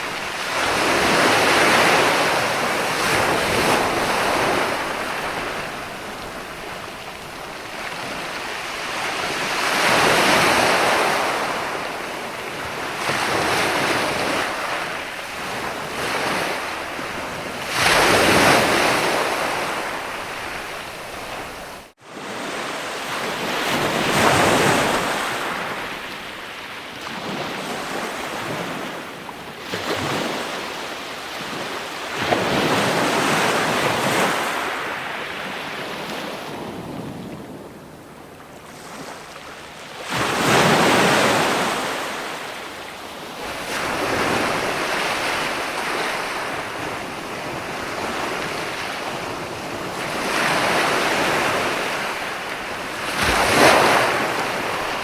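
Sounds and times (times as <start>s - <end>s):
ocean waves washing in: 0.0s - 29.1s, 32.4s - 55.0s.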